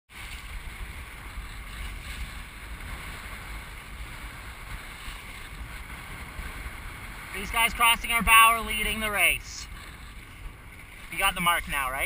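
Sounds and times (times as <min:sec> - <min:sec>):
hiss of wind and water: 0:00.1 - 0:12.0
wind buffeting microphone: 0:00.1 - 0:12.0.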